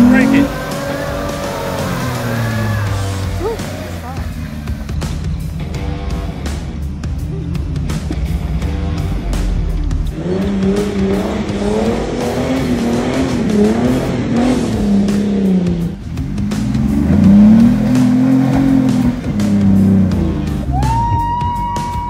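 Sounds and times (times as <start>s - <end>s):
engines revving hard: 0.0s - 21.0s.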